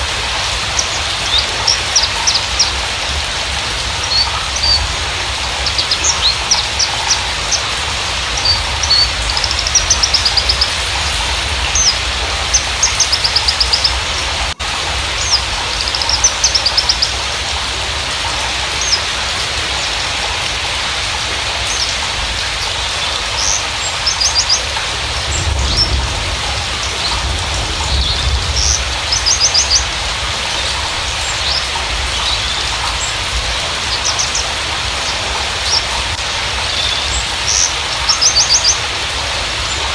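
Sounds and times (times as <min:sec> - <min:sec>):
bird singing chirps and trills: 0:00.0 - 0:39.9
steady hiss: 0:00.0 - 0:39.9.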